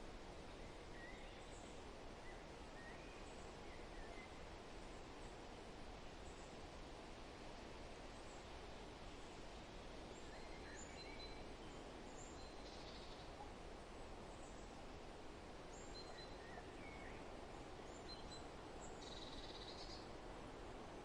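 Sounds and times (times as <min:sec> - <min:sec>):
wind in trees: 0:00.0 - 0:21.0.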